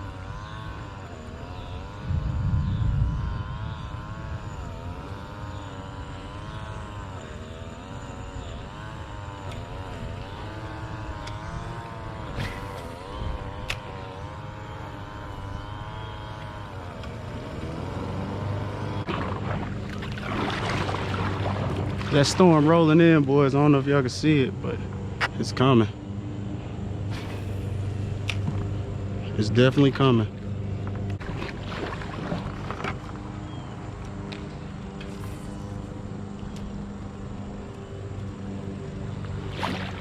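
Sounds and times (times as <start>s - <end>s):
distant engine droning: 0.0s - 40.0s.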